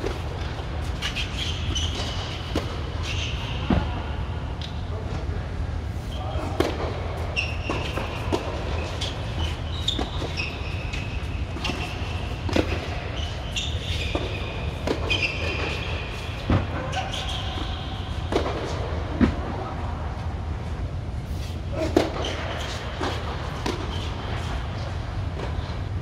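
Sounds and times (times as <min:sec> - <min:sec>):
shoe squeaks: 0:00.0 - 0:04.2, 0:06.0 - 0:18.8, 0:21.3 - 0:25.8
steady low hum: 0:00.0 - 0:26.0.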